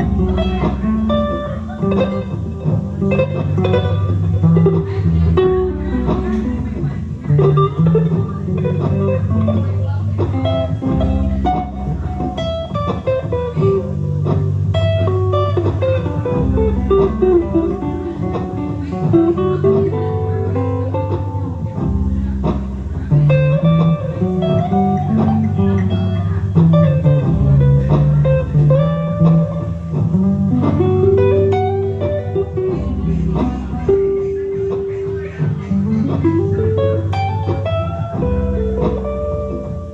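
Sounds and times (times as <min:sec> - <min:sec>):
held low bass notes: 0:00.0 - 0:39.9
plucked guitar notes and arpeggios: 0:00.0 - 0:39.9.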